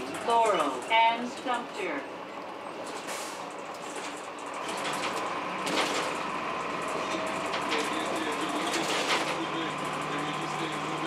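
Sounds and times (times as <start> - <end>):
bus drivetrain whine: 0.0 - 11.0
rattles in bus cabin: 0.0 - 11.0.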